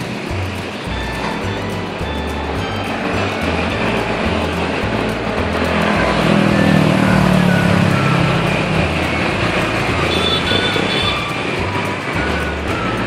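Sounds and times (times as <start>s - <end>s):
bus passing: 0.0s - 13.0s
light traffic noise: 0.0s - 13.0s
motorcycles passing: 0.0s - 13.0s.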